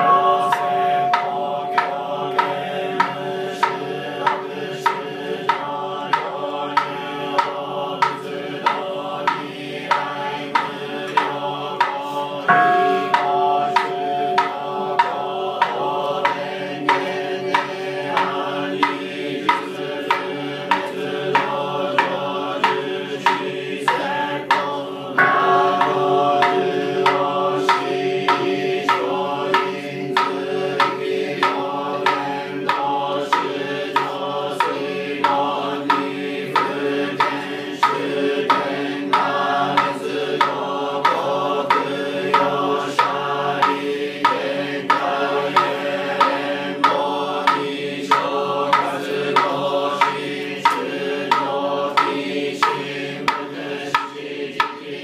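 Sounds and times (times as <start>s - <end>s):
group chanting in unison: 0.0s - 55.0s
steady struck beat: 0.0s - 55.0s.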